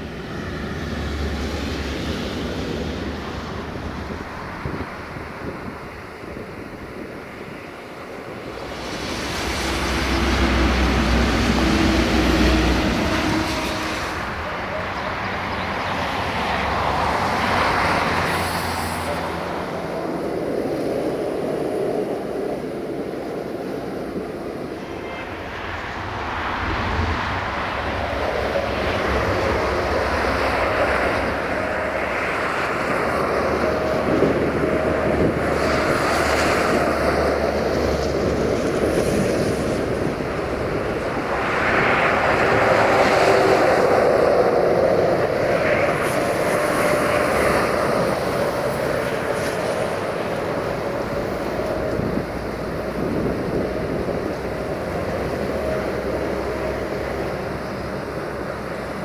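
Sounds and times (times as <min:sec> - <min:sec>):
diesel locomotive engine droning: 0:00.0 - 0:59.0.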